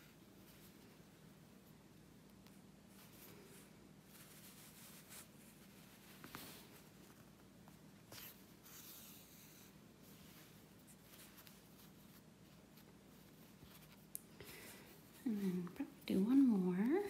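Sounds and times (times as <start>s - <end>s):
low steady hum: 0.0s - 17.0s
soft swishes of thread: 0.0s - 17.0s.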